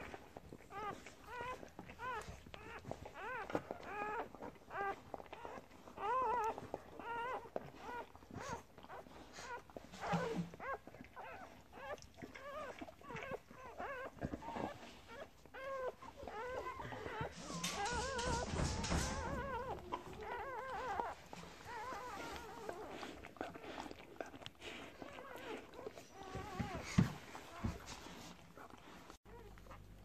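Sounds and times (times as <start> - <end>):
puppies squeaking and whimpering: 0.0 - 30.0.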